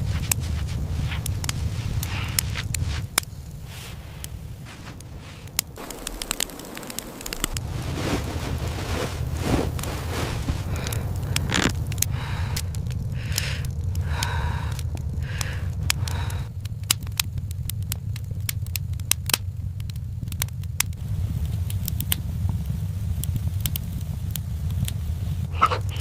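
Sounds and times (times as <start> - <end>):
low rumble: 0.0 - 26.0
wood fire crackling: 0.0 - 26.0.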